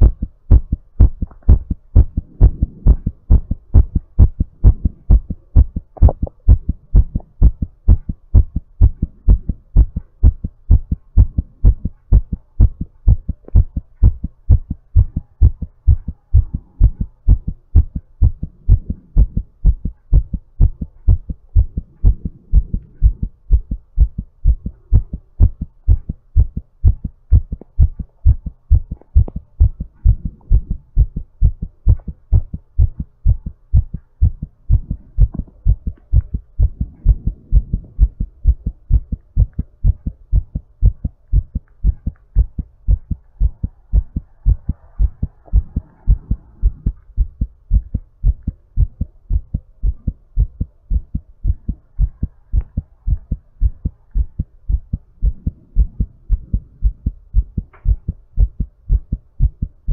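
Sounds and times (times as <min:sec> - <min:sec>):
heartbeat: 0:00.0 - 0:59.9.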